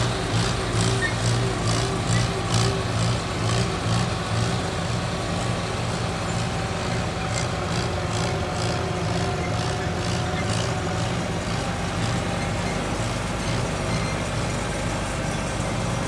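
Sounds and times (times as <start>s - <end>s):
motor grader engine running: 0.0s - 16.0s.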